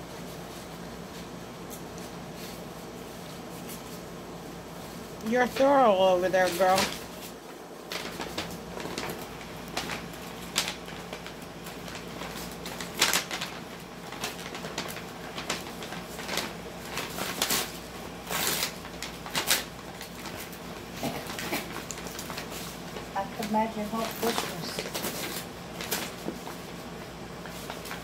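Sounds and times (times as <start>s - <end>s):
paper bag crinkling and ripping: 5.2s - 28.0s.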